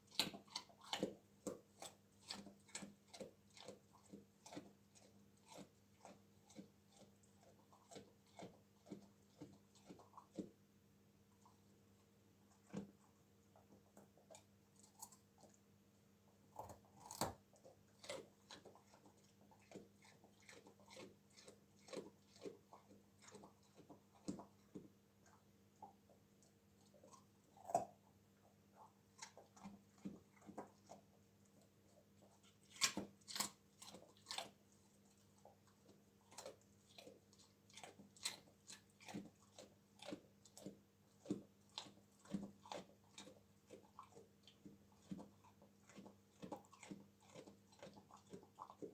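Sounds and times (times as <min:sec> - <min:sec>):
dog crunching carrot: 0:00.0 - 0:10.6, 0:11.3 - 0:15.6, 0:16.4 - 0:48.9.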